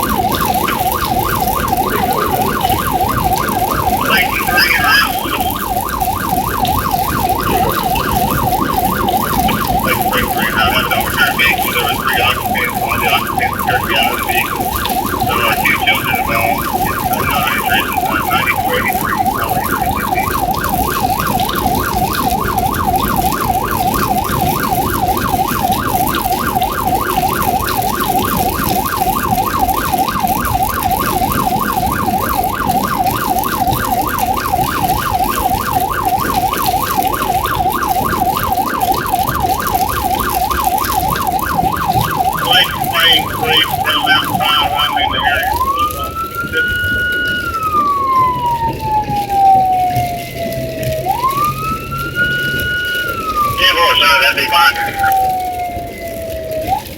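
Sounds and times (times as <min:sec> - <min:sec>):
electronic siren yelping: 0:00.0 - 0:56.9.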